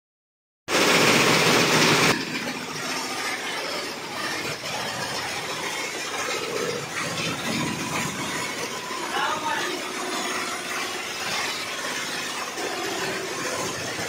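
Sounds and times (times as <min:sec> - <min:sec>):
embroidery machine stitching: 0:00.7 - 0:14.0.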